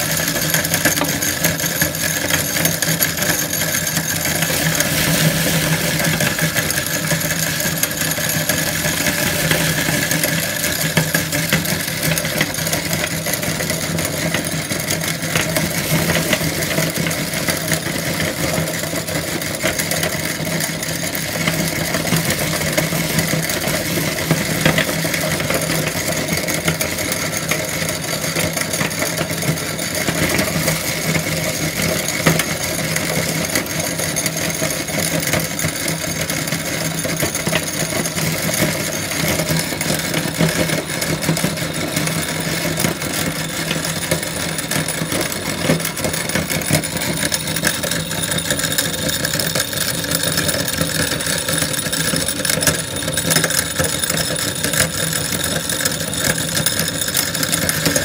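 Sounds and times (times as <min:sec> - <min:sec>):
meat grinder motor hum: 0:00.0 - 0:58.0
popcorn crackling as crushed: 0:00.0 - 0:58.0.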